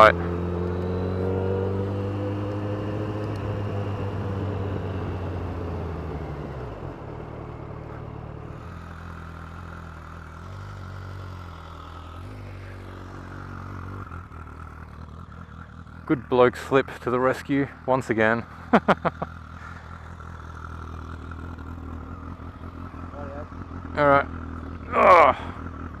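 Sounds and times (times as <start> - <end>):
vehicle engines running: 0.0 - 26.0.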